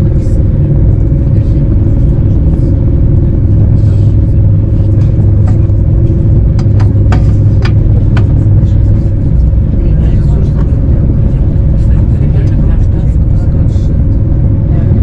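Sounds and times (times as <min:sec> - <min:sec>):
constant hum: 0:00.0 - 0:15.0
train rumbling at speed: 0:00.0 - 0:15.0.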